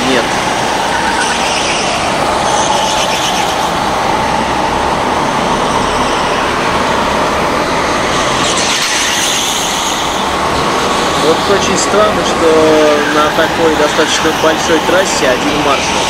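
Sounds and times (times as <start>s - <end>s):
kart engines buzzing: 0.0s - 16.0s.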